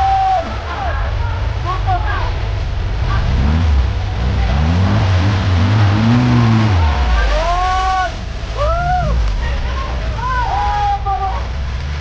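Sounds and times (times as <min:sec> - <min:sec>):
engine revving under load: 0:00.0 - 0:10.4.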